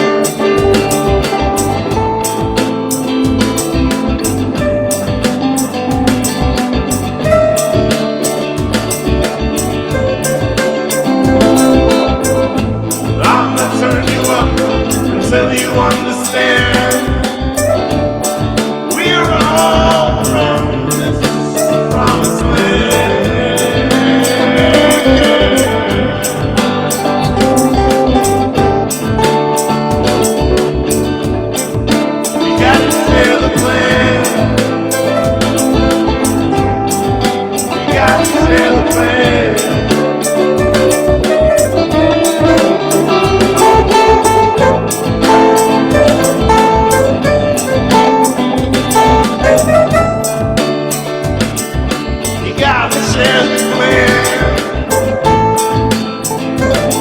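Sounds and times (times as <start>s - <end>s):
electric guitar: 0.0s - 57.0s
live band playing: 0.0s - 57.0s.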